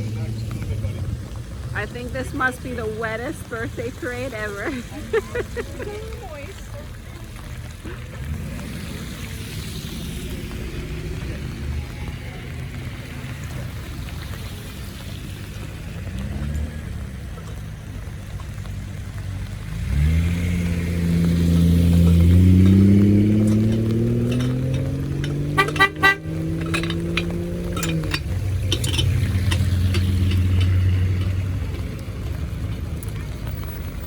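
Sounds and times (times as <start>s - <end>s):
cars driving past: 0.0s - 34.0s
vehicle engine accelerating: 0.0s - 34.0s.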